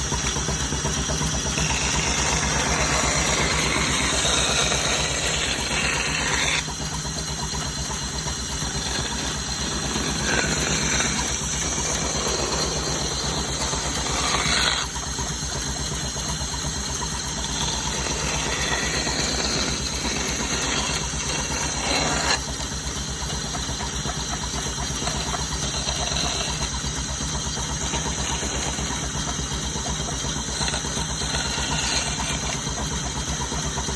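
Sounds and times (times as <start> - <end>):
woodworking machine motor humming: 0.0 - 33.9.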